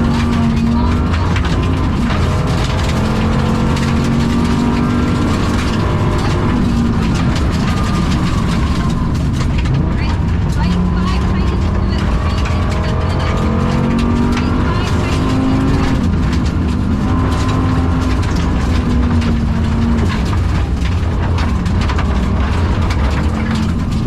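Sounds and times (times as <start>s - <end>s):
misfiring car engine: 0.0s - 24.0s
sharp clicks and crackles: 0.0s - 24.0s.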